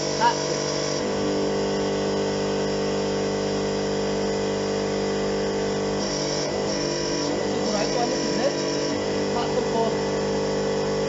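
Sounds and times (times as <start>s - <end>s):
hydraulic pump hum and whine: 0.0s - 11.0s.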